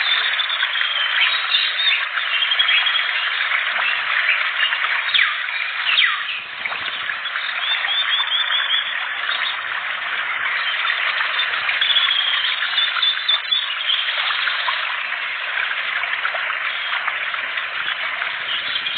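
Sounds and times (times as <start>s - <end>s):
songbirds chirping and whistling: 0.0s - 14.9s, 17.8s - 18.9s.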